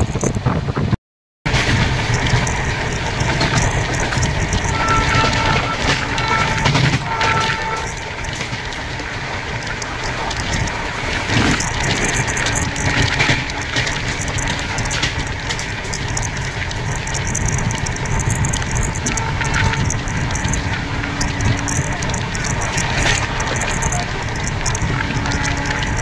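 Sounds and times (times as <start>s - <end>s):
sharp clicks and rattles: 0.0s - 0.6s, 1.5s - 26.0s
train wheels rumbling on rails: 1.5s - 26.0s.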